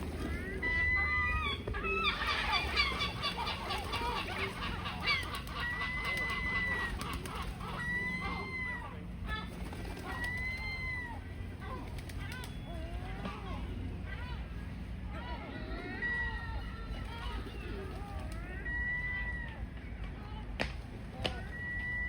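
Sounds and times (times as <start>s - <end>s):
gulls calling: 0.0s - 20.4s.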